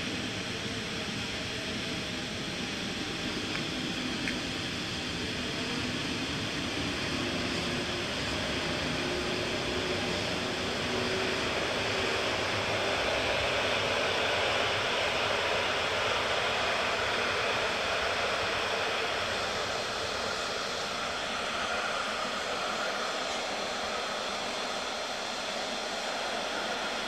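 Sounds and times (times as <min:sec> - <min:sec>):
electric train passing: 0:04.9 - 0:27.0.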